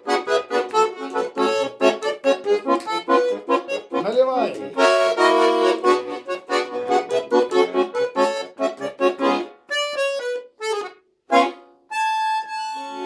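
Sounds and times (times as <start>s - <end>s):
accordion playing: 0.0s - 13.0s.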